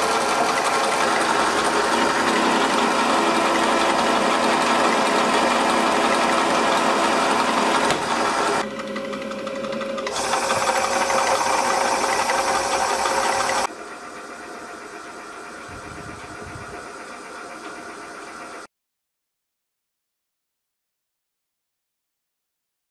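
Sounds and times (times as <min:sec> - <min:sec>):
lathe whirring with gear whine: 0:00.0 - 0:18.7.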